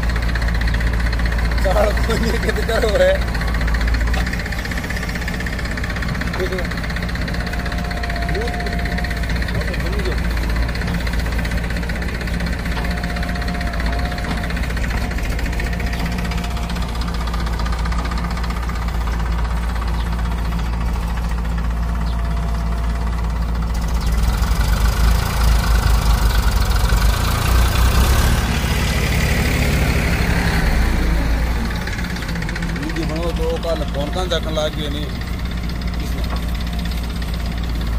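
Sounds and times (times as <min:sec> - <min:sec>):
diesel engines droning: 0:00.0 - 0:37.9.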